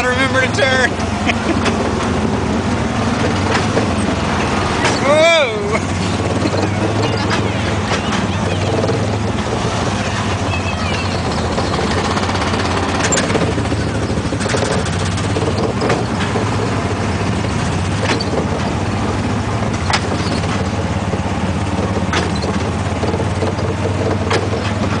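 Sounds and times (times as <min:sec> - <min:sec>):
small gasoline engine running: 0:00.0 - 0:25.0.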